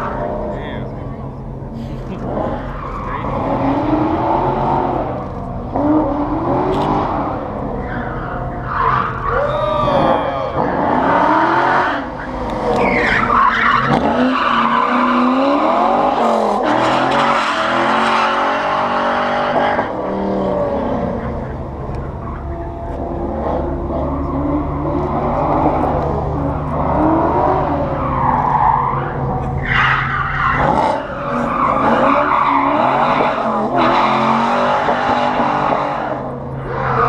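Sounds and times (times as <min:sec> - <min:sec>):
pickup engine revving: 0:00.0 - 0:37.0
tire squeal: 0:02.2 - 0:37.0.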